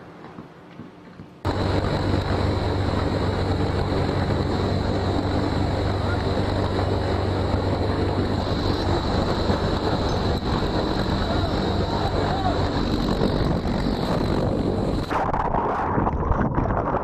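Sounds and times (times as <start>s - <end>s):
constant high whine: 0.0s - 17.0s
helicopter rotor and engine drone: 1.4s - 15.7s
rushing air: 1.4s - 17.0s.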